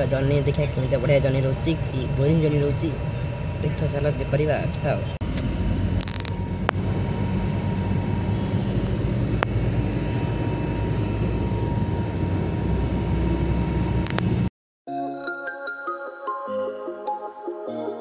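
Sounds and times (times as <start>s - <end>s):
bus engine and road noise: 0.0s - 14.5s
faint steady whine: 0.0s - 14.5s.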